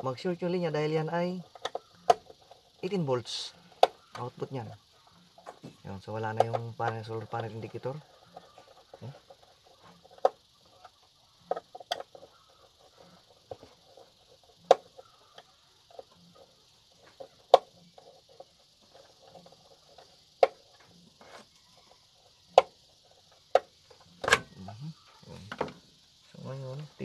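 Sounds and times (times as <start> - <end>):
faint ticks and rustling: 0.0 - 27.0.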